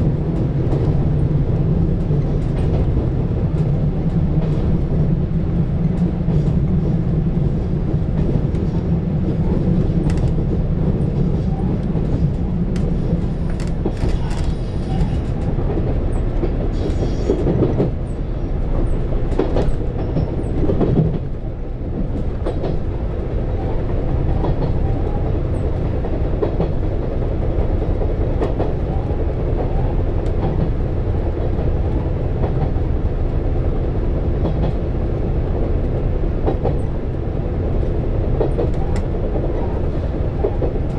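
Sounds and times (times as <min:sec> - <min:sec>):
railcar rumbling on rails: 0:00.0 - 0:40.9.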